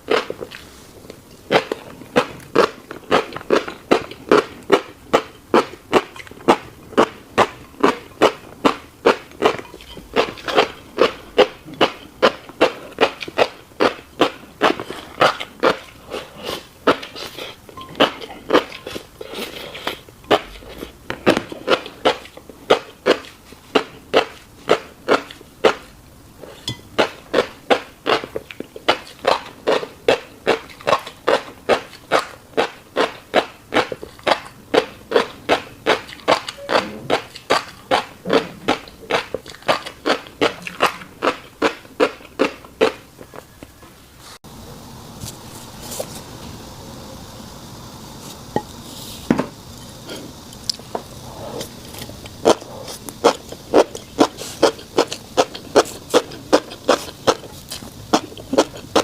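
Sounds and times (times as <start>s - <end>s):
wet chewing clicks: 0.0s - 26.0s, 27.0s - 43.7s, 51.6s - 59.0s.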